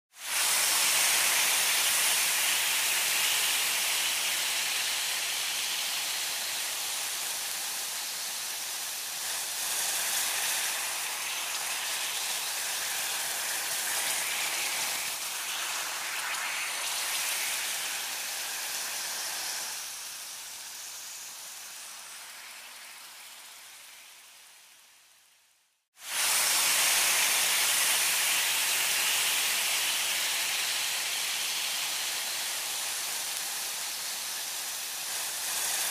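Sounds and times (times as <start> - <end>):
meat sizzling on a grill: 0.1 - 25.2, 26.0 - 35.9.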